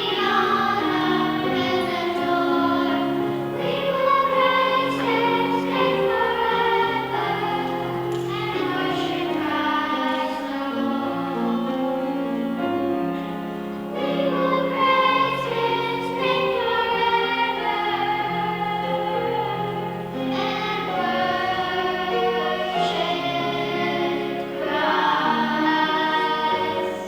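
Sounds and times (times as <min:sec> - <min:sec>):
choir singing: 0:00.0 - 0:27.0.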